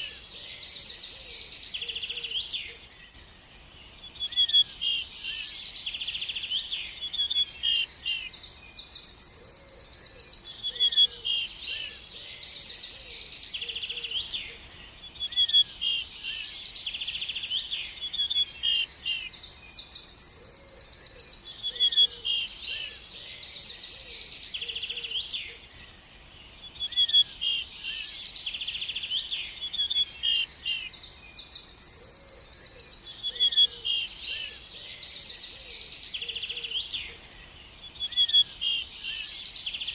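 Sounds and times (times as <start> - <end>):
songbird singing trills: 0.0 - 39.9.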